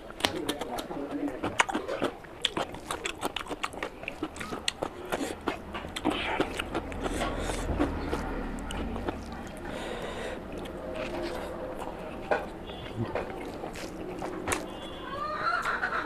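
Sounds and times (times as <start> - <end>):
wet chewing and mouth smacking: 0.0 - 15.8.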